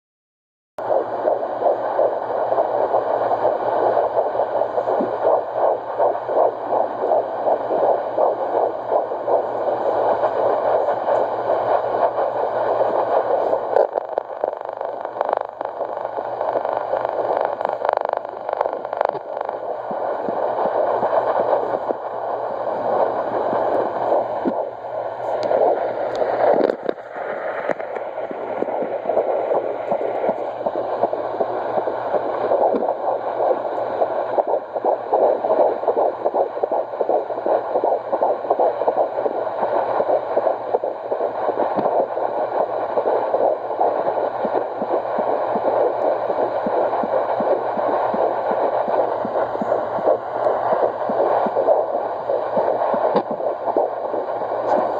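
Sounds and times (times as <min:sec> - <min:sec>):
whooshing fetal heartbeat pulses: 0:00.8 - 0:54.9.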